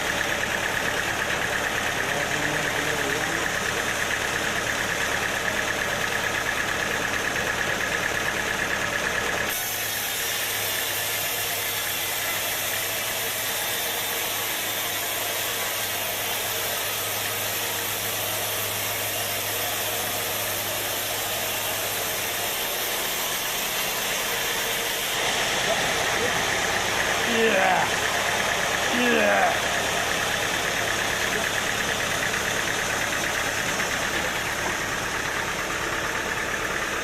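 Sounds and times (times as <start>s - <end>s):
sawmill machinery whining and rumbling: 0.0s - 37.0s.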